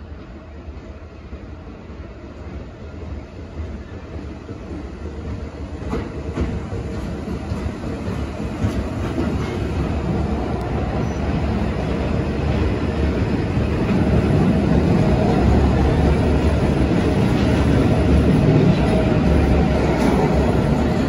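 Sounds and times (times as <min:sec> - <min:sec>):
subway train wheels rumbling: 0:00.0 - 0:21.0.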